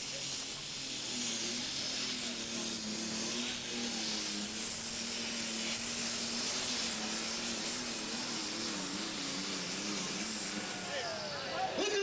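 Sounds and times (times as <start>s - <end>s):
tractor-pulling engine running: 0.0s - 12.0s.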